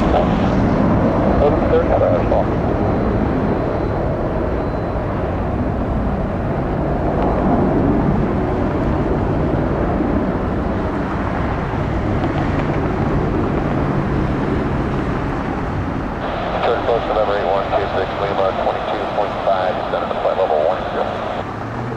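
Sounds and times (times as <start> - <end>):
jet engines rumbling: 0.0 - 21.9.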